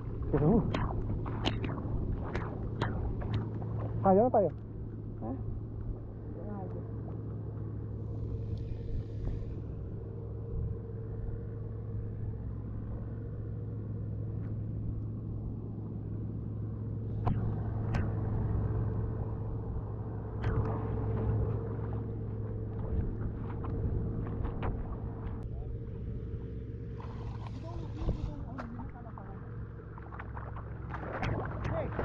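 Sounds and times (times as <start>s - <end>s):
engine humming: 0.0s - 32.0s.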